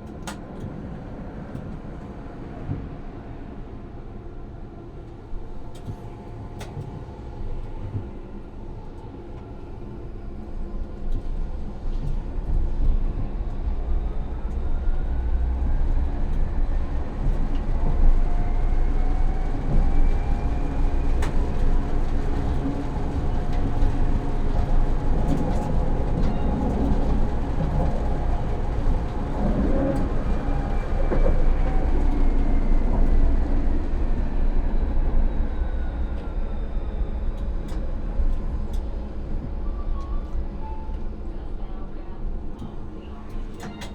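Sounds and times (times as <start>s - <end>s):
tram wheels rumbling on rail: 0.0s - 43.9s.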